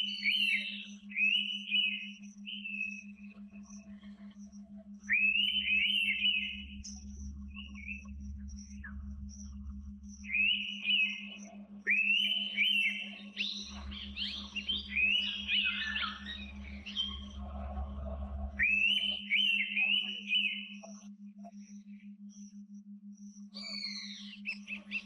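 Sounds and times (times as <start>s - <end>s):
birds whistling: 0.0s - 3.9s, 5.0s - 9.6s, 10.2s - 21.0s, 23.6s - 25.0s
low pulsing hum: 0.0s - 25.0s.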